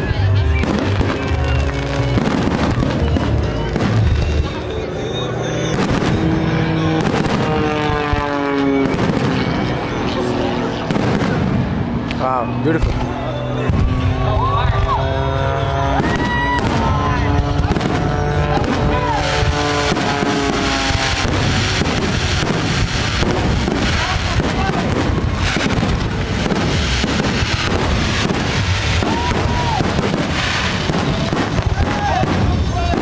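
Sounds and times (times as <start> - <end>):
fireworks bangs and crackles: 0.0 - 33.0
loud music: 0.0 - 33.0.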